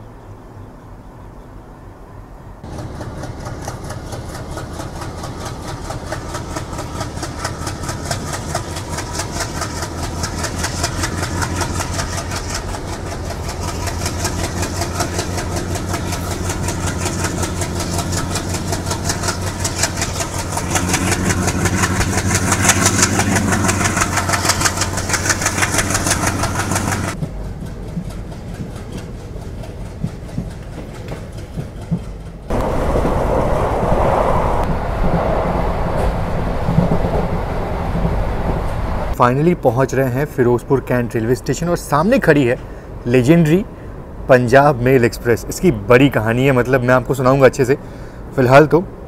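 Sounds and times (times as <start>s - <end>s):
diesel locomotive engine chugging: 2.6s - 49.0s.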